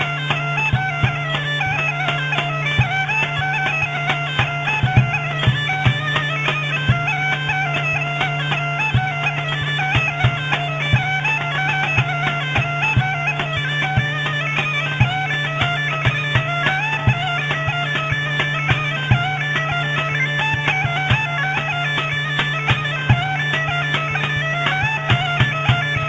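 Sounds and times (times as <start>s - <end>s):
bagpipe drone and melody: 0.0s - 26.0s
drum beats: 0.0s - 26.0s.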